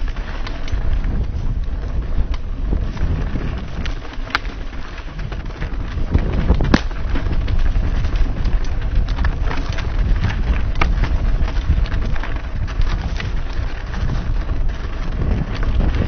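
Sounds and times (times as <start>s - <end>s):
bike rolling over dirt trail: 0.0s - 16.0s
gravel and bike rattles: 0.0s - 16.0s
wind buffeting microphone: 0.0s - 16.0s.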